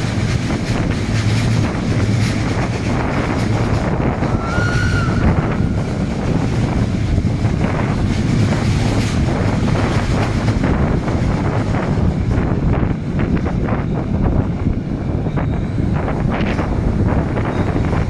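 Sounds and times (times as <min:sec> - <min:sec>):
train wheels running: 0:00.0 - 0:18.0
wind buffeting microphone: 0:00.0 - 0:18.0.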